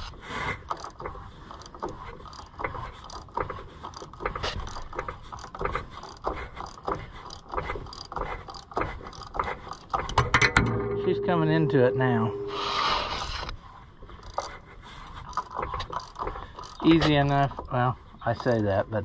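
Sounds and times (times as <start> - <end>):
metallic clicks and scraping: 0.0 - 10.9, 13.1 - 17.8.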